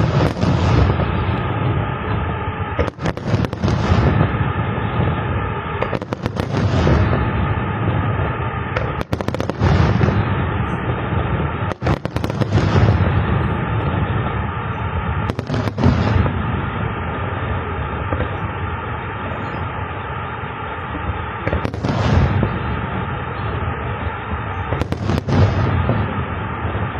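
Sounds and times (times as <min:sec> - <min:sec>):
fireworks booms and crackle: 0:00.0 - 0:26.9
sharp firework bangs: 0:00.0 - 0:26.9.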